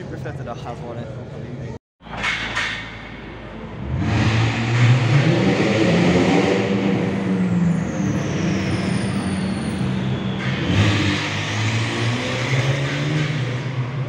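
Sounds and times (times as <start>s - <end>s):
car engine echoing in tunnel: 2.0s - 14.0s.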